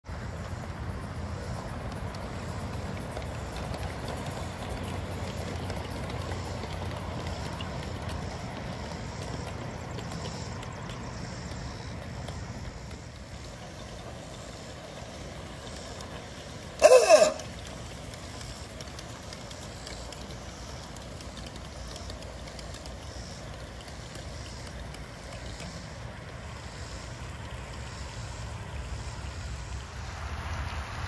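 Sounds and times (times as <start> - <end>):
miniature train wheels rolling on track: 0.0 - 31.0.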